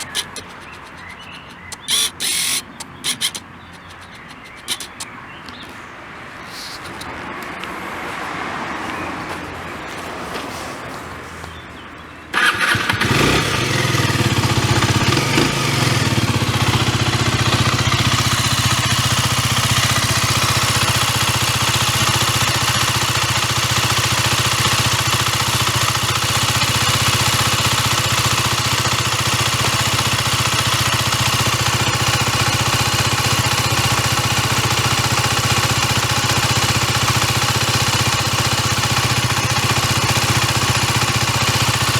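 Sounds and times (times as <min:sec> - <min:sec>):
motorcycle engine starting and idling: 0:00.0 - 0:05.8, 0:12.3 - 0:41.9.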